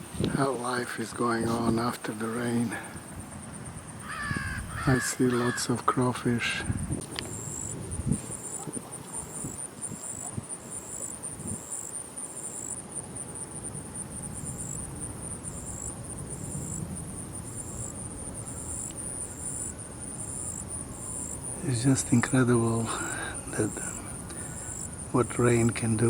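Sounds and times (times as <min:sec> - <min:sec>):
insect chirping in pulses: 0:00.0 - 0:26.0
insect chorus: 0:00.0 - 0:26.0.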